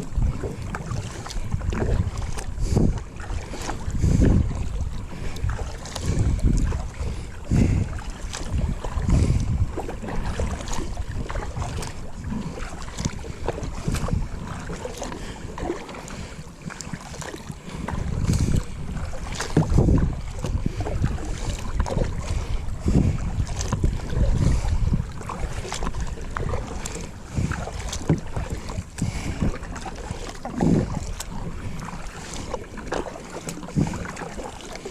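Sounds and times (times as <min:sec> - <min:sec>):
wind buffeting microphone: 0:00.0 - 0:34.9
boat knocks and clicks: 0:00.2 - 0:34.9.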